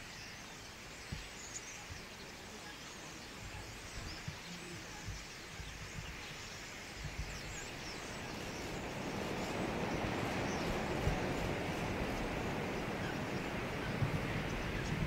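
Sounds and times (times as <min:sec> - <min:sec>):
starlings chattering: 0:00.7 - 0:15.0.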